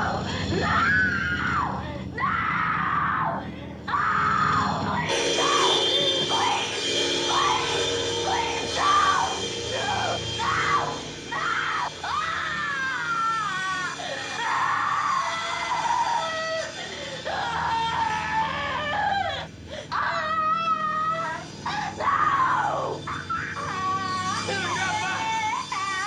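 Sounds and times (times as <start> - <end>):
droning film score: 0.0 - 26.0
woman screaming: 0.5 - 26.0.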